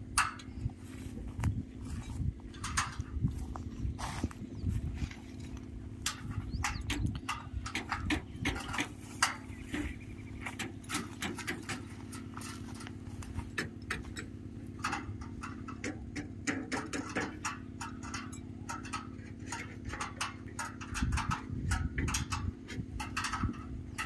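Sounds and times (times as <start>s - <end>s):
steady low hum: 0.0s - 24.0s
clicks and knocks on metal frame: 0.1s - 0.8s, 1.4s - 4.2s, 5.0s - 24.0s.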